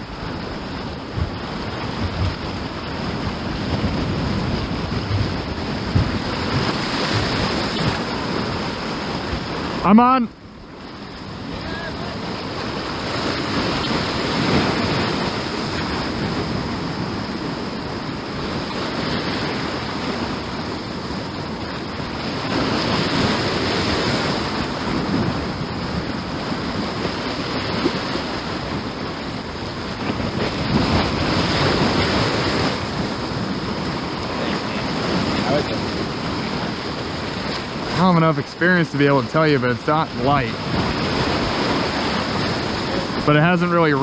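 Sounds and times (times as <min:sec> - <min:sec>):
ocean surf washing ashore: 0:00.0 - 0:44.0
wind on microphone: 0:00.0 - 0:44.0.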